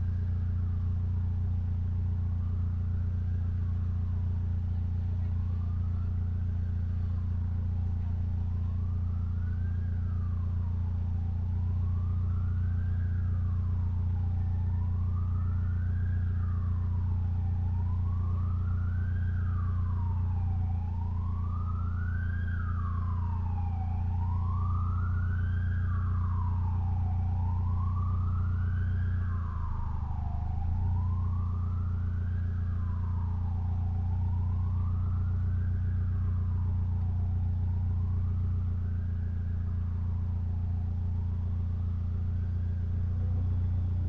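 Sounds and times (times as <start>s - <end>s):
car engine droning: 0.0s - 44.0s
emergency siren wailing: 0.0s - 44.0s.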